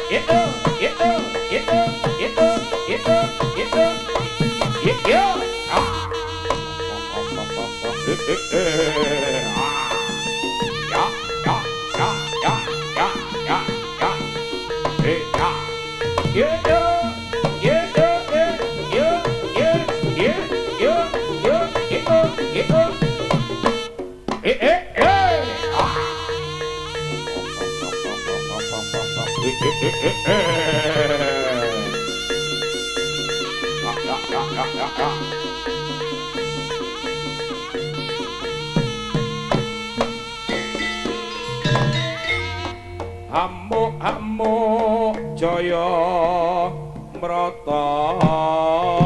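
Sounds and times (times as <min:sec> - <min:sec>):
held steady tone: 0:00.0 - 0:24.0, 0:25.0 - 0:43.3
shawm playing ornamented melody: 0:00.0 - 0:24.4, 0:25.0 - 0:49.0
kendang drum strokes: 0:00.0 - 0:44.5.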